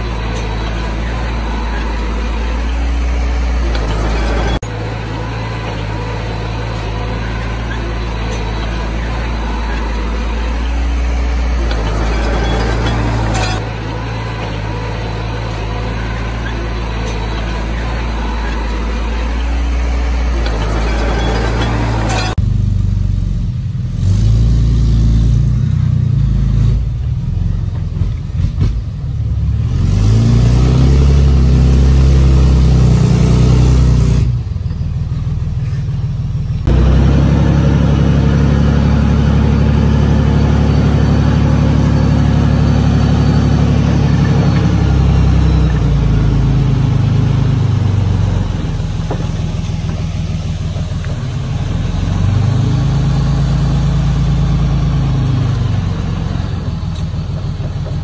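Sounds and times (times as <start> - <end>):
hydraulic hoist raising bed: 0.0 - 22.4, 26.6 - 58.0
truck engine revving: 0.0 - 58.0.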